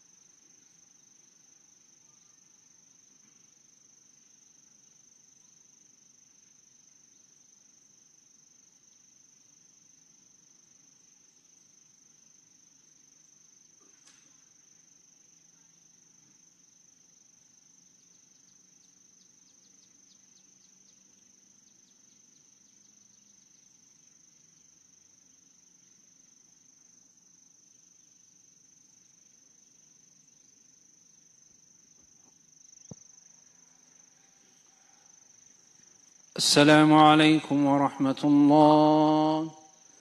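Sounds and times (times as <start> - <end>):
cricket trill: 0.0 - 40.0.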